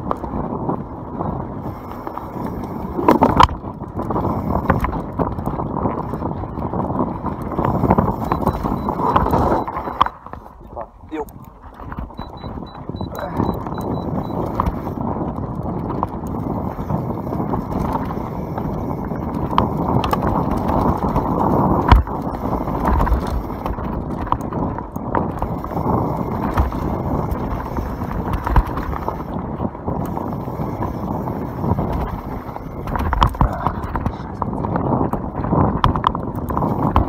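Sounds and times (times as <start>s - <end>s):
bike knocking and rattling: 0.0s - 37.0s.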